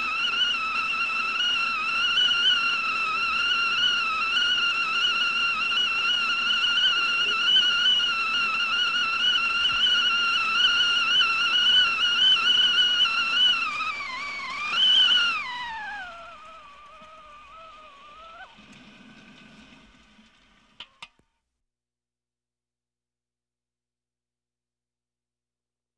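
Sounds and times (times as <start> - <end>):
kettle whistling: 0.0 - 21.3.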